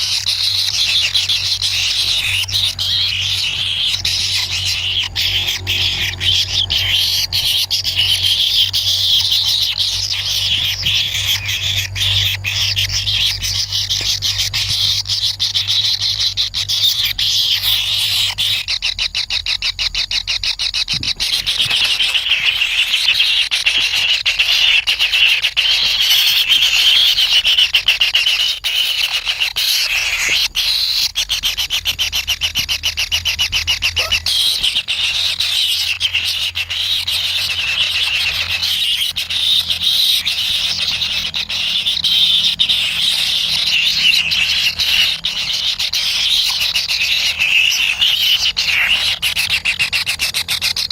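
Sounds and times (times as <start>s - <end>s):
bird chicks begging calls: 0.0s - 50.9s.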